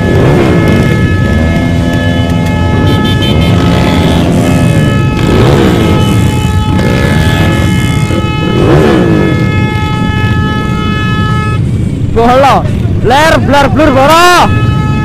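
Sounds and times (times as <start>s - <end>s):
many engines running: 0.0s - 15.0s
motorcycle engines revving: 0.0s - 15.0s.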